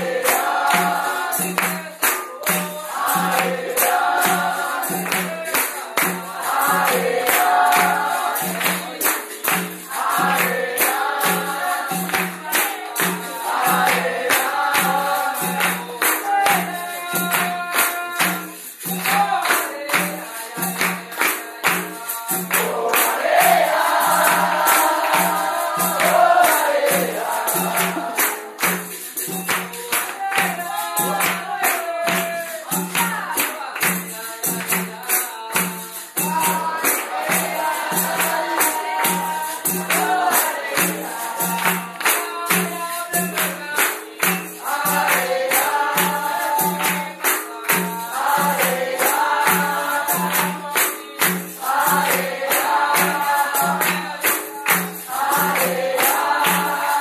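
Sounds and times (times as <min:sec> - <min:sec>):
group singing: 0:00.0 - 0:57.0
hand-clapping: 0:00.0 - 0:57.0.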